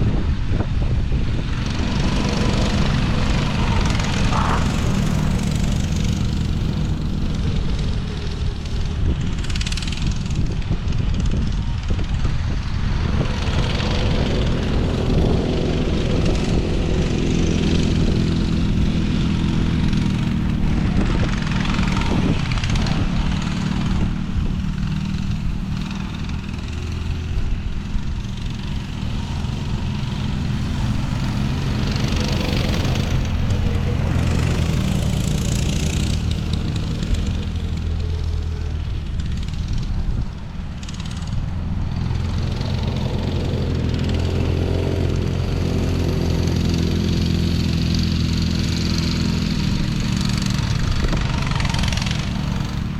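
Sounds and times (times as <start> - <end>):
off-road vehicle engine running: 0.0 - 52.9
wind noise on microphone: 0.0 - 52.9.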